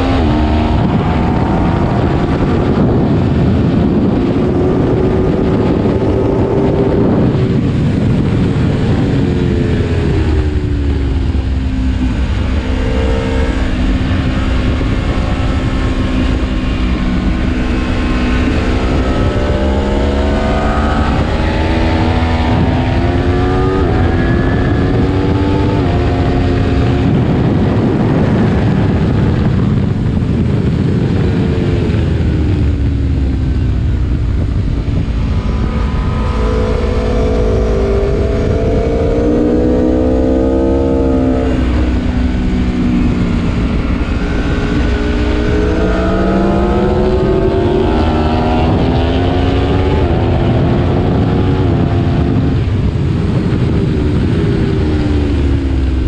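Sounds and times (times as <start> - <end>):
dense rush of noise: 0.0 - 56.0
motorcycle engine revving: 0.0 - 56.0.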